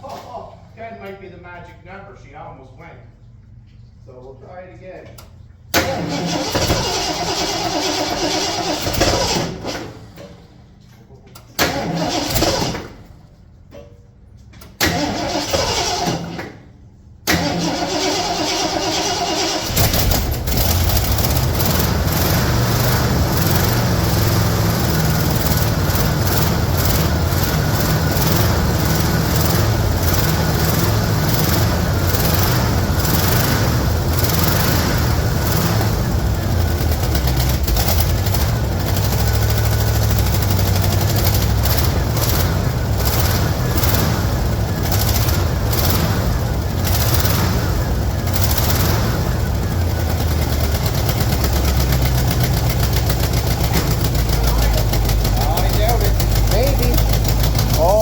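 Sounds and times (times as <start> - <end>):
engine running: 5.0 - 16.6, 17.2 - 58.0
starter motor cranking: 5.8 - 10.0, 11.6 - 13.0, 14.8 - 16.4, 17.3 - 58.0.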